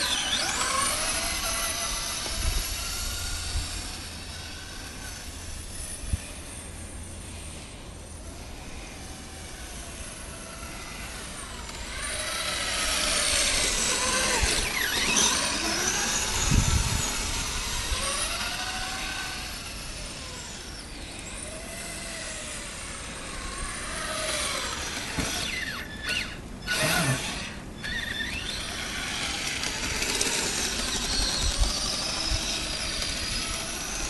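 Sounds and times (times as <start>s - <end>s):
toy electric motor whining: 0.0s - 34.0s.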